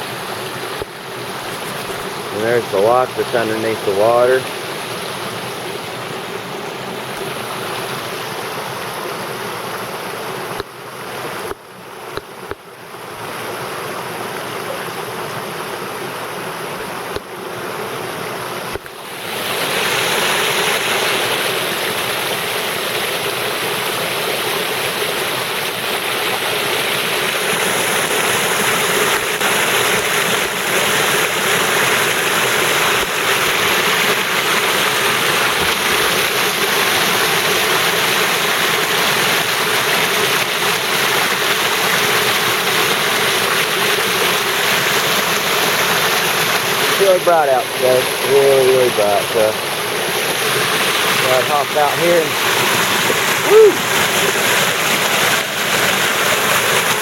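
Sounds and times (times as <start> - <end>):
creek water rushing over dam: 0.0 - 57.0.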